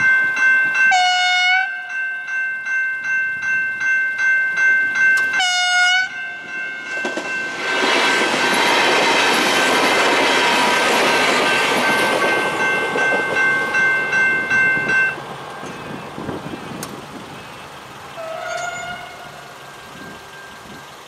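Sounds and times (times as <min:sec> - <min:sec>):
diesel train passing: 0:00.0 - 0:21.0
electronic crossing bells ringing: 0:00.0 - 0:21.0.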